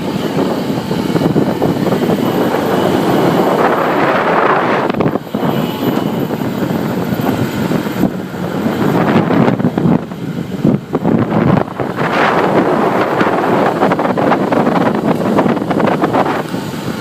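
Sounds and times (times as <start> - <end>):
motorcycle running: 0.0 - 17.0
road noise: 0.0 - 17.0
wind buffeting microphone: 0.0 - 17.0.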